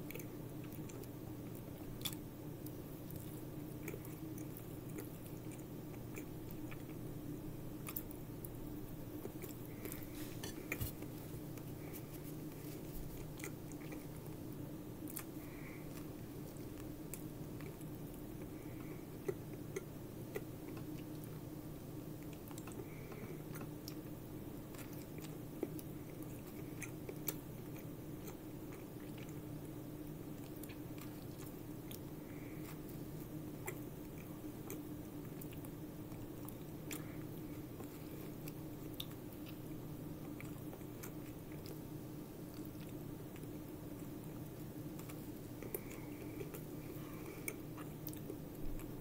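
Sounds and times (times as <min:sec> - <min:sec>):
person chewing: 0:00.0 - 0:07.0, 0:07.8 - 0:21.4, 0:22.2 - 0:29.5, 0:30.3 - 0:49.0
steady low hum: 0:00.0 - 0:49.0.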